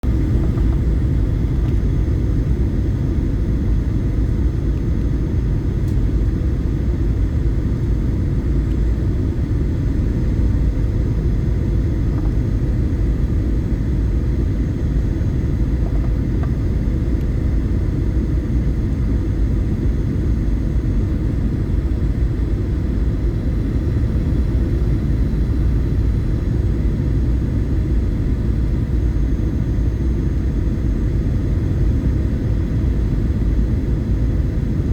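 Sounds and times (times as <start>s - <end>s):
airliner cabin engine rumble: 0.0s - 34.9s
faint steady hum: 0.0s - 34.9s.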